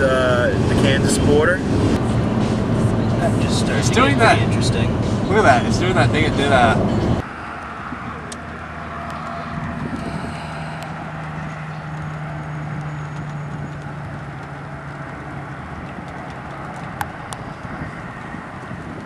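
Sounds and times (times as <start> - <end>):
road traffic: 0.0 - 19.0
vehicle low hum: 0.0 - 19.0.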